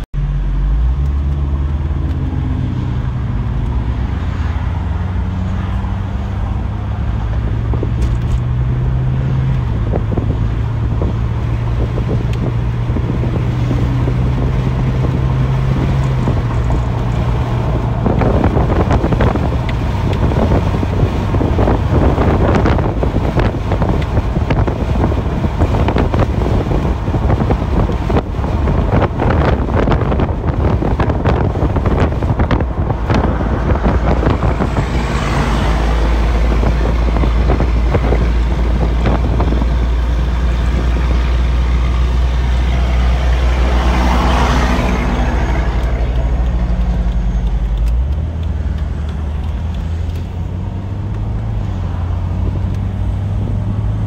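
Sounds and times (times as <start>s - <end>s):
car engine droning: 0.0s - 54.0s
road noise: 0.0s - 54.0s
wind rush: 1.4s - 54.0s.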